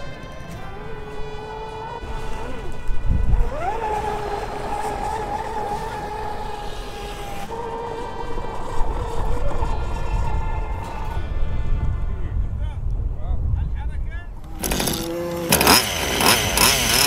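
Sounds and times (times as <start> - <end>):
model boat motor whining: 0.0 - 11.6, 14.4 - 17.0.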